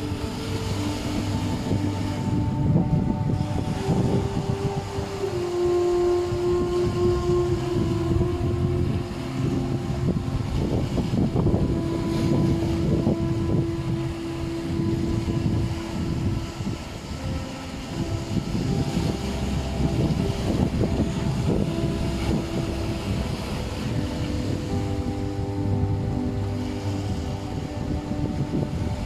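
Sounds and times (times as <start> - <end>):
meditation music drone: 0.0 - 29.0
waves splashing over rocks: 0.0 - 29.0.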